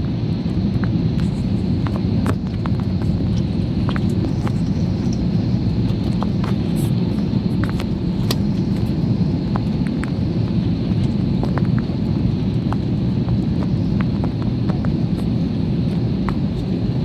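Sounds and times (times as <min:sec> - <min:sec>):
jet engines roaring: 0:00.0 - 0:17.0
rushing air in cabin: 0:00.0 - 0:17.0.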